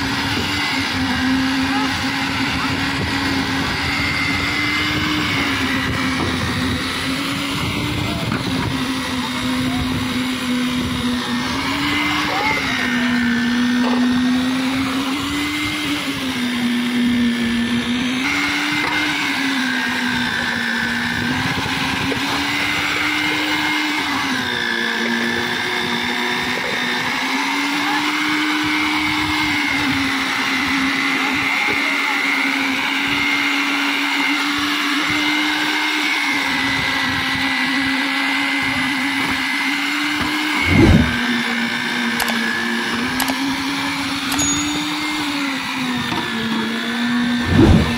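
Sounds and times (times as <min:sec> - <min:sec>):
concrete vibrator motor running: 0:00.0 - 0:47.9.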